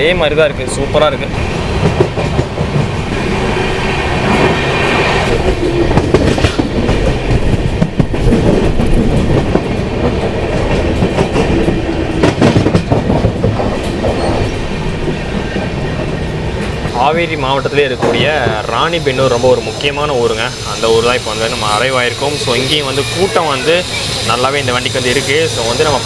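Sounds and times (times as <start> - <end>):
train coach rumbling on rails: 0.0 - 26.0.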